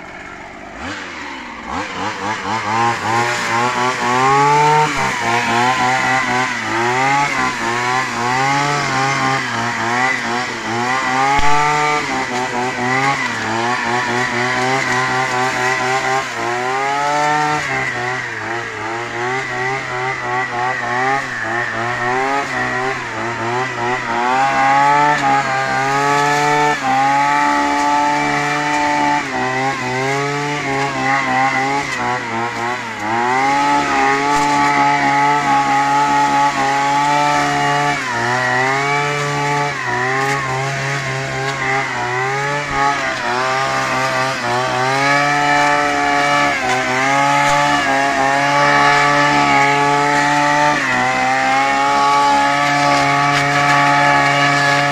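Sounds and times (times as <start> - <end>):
brushcutter engine at high revs: 0.0 - 54.9.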